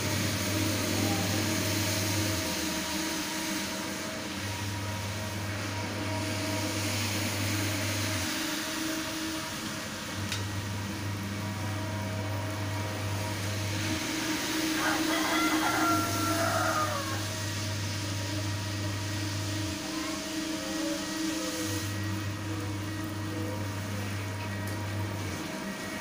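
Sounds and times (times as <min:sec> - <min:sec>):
floor scrubber motor hum: 0:00.0 - 0:26.0.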